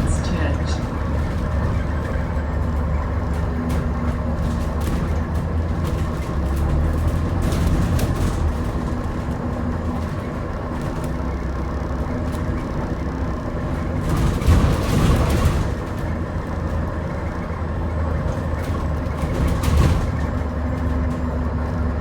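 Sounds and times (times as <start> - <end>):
bus drivetrain hum: 0.0 - 22.0.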